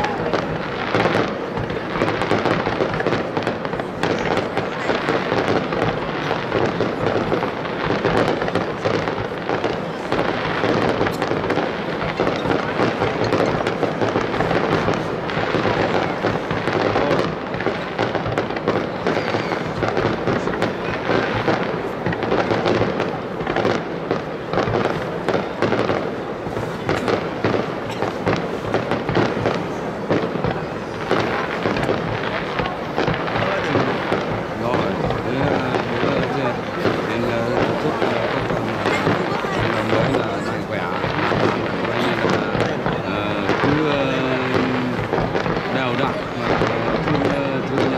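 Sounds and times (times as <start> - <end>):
fireworks bursting and crackling: 0.0 - 47.9.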